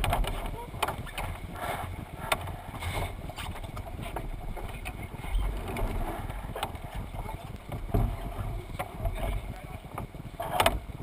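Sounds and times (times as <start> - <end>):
water splashing along hull: 0.0 - 11.0
wind buffeting microphone: 0.0 - 11.0.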